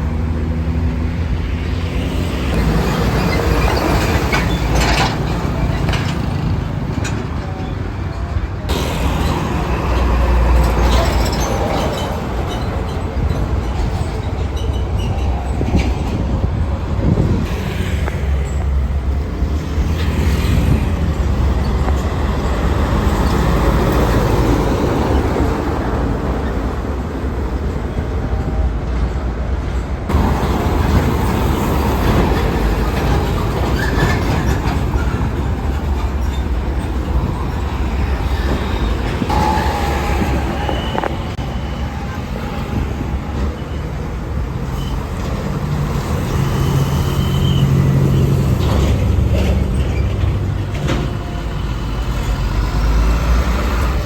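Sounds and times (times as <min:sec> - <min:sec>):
vehicles passing close by: 0:00.0 - 0:28.4, 0:29.4 - 0:54.0.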